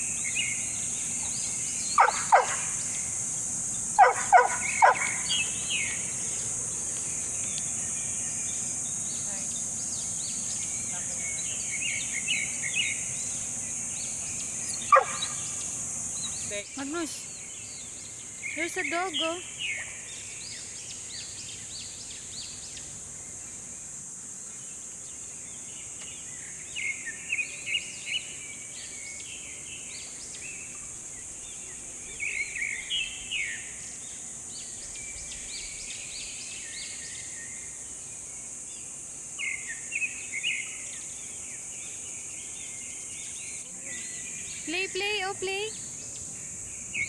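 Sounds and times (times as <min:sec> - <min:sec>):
birds chirping: 0:00.0 - 0:23.6, 0:24.5 - 0:47.0
insects droning: 0:00.0 - 0:47.0.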